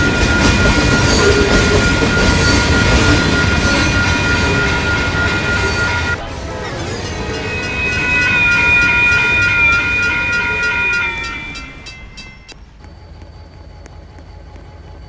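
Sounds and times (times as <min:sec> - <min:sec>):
high-pitched squealing tones: 0:00.0 - 0:12.6
train rumble: 0:00.0 - 0:15.0
train wheels clacking: 0:00.0 - 0:15.0.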